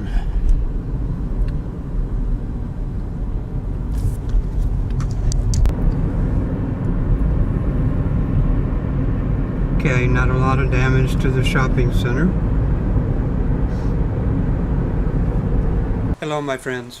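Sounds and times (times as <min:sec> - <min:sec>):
car engine and road noise: 0:00.0 - 0:16.2.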